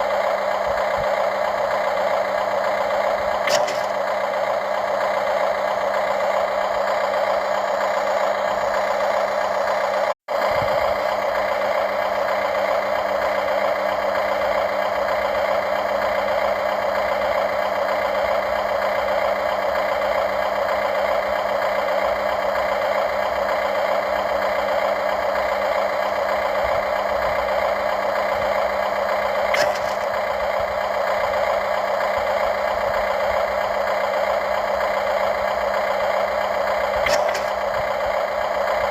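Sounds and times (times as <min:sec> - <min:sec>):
model excavator motors humming: 0:00.0 - 0:38.9.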